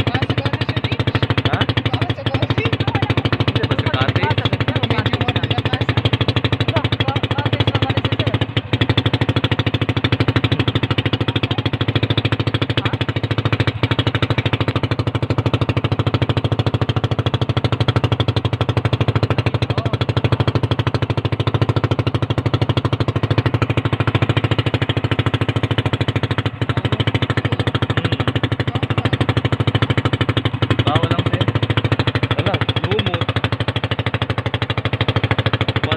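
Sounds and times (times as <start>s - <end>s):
motorboat engine chugging: 0.0s - 35.9s.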